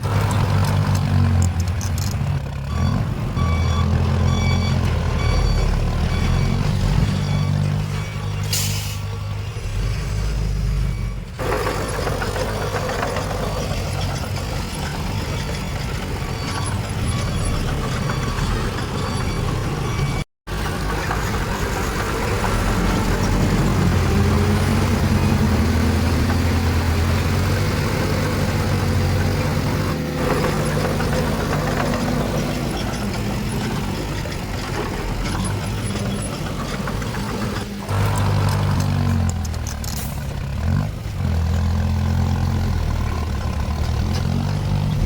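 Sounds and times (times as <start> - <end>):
heavy machinery diesel engine drone: 0.0 - 45.0.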